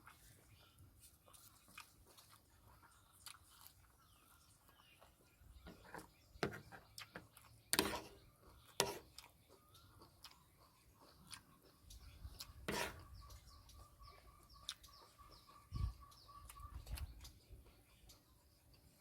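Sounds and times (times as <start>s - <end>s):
person chewing food: 0.0s - 15.5s.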